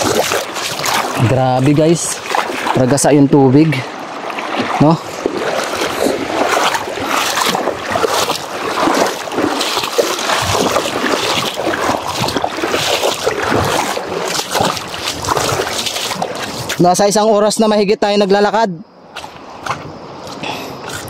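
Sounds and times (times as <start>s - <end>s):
river current rushing: 0.0s - 17.5s
water splashing: 0.0s - 21.0s.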